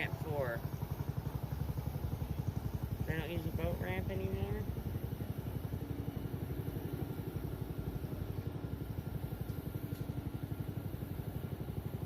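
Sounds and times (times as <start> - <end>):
engine idling: 0.0 - 12.0
faint hum: 0.0 - 12.0.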